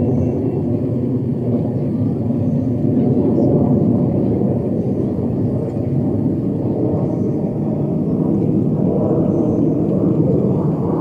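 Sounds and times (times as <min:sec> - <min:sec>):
distant jet engines rumbling: 0:00.0 - 0:11.0.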